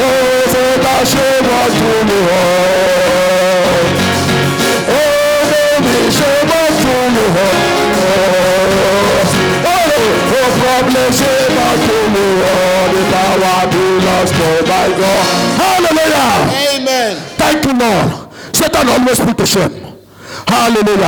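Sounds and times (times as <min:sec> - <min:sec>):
guitar: 0:00.0 - 0:17.4
person singing: 0:00.0 - 0:17.4.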